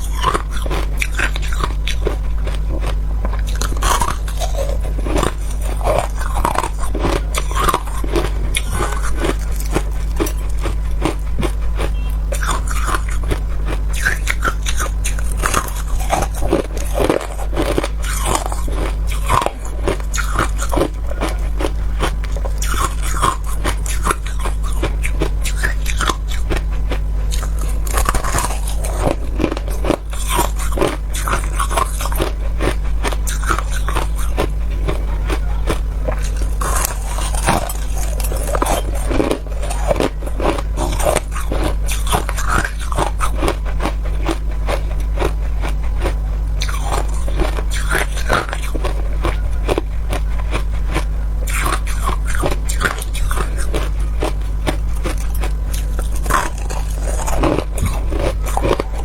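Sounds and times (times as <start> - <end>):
ice crunching between teeth: 0.0 - 59.0
low hum: 0.0 - 59.0.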